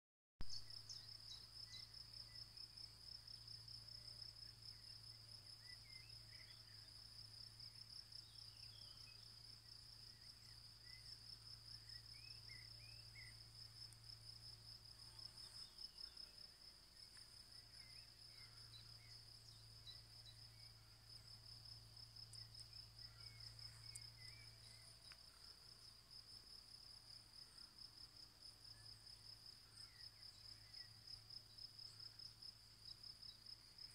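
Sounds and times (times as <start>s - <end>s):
faint low hum: 0.5s - 33.9s
crickets trilling: 0.6s - 33.9s.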